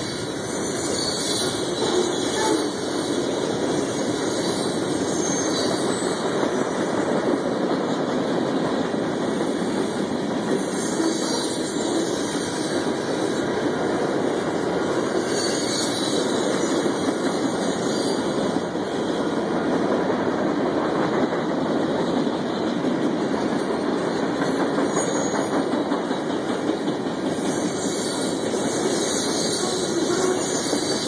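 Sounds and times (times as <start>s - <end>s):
steel wheels rolling on rails: 0.0s - 31.0s.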